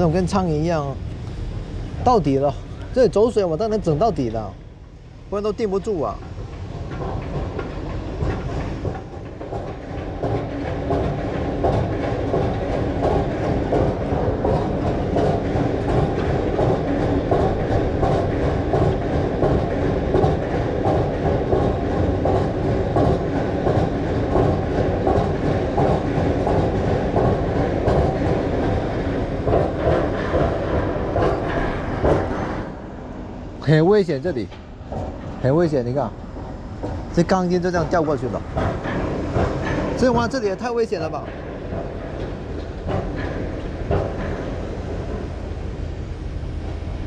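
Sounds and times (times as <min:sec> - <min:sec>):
train passing with wheel clatter: 0:00.0 - 0:47.0.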